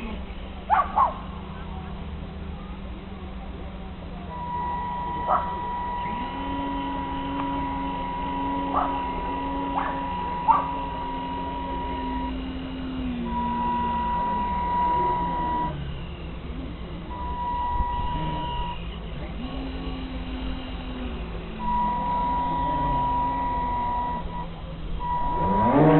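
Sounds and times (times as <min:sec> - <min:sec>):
motor whine: 0:00.0 - 0:25.9
high-pitched electronic tone: 0:04.3 - 0:16.3, 0:17.1 - 0:25.9.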